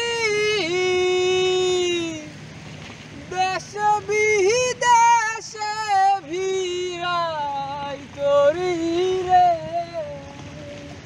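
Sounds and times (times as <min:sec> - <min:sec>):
high voice singing slow melody: 0:00.0 - 0:02.5, 0:03.1 - 0:11.0.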